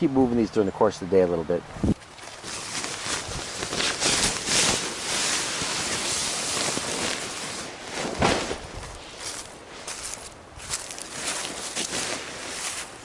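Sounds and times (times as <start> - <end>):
fabric rustling: 2.1 - 13.0.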